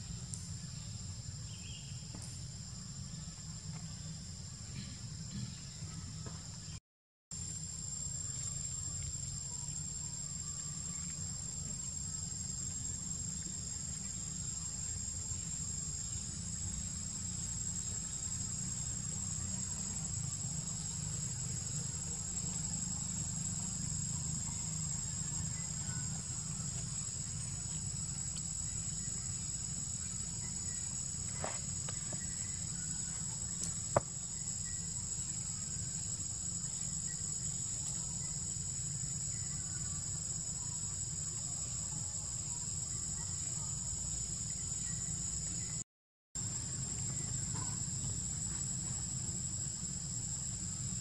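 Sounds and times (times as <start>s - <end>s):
insect chorus drone: 0.0s - 6.8s, 7.4s - 45.8s, 46.4s - 51.0s.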